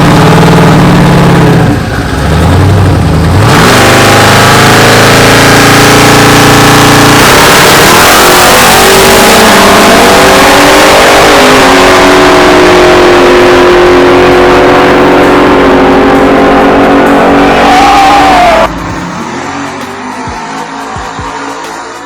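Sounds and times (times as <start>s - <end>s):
vehicle engine at high revs: 0.0s - 22.0s.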